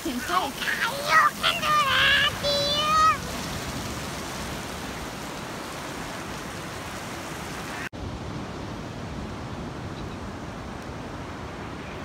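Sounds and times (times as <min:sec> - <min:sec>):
waves washing up beach: 0:00.0 - 0:12.0.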